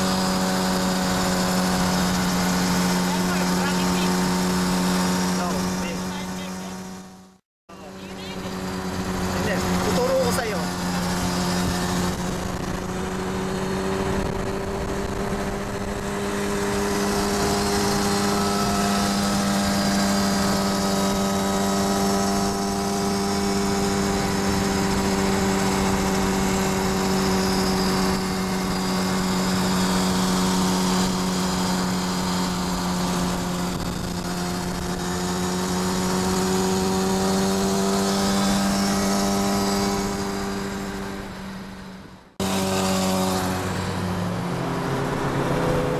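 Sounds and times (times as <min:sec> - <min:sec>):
motorcycle engine droning: 0:00.0 - 0:45.9
wind and road noise: 0:00.0 - 0:45.9.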